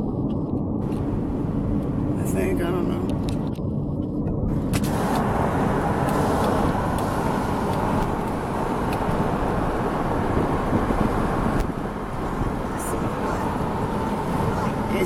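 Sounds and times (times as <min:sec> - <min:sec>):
road traffic rumble and tyre hiss: 0:00.0 - 0:15.0.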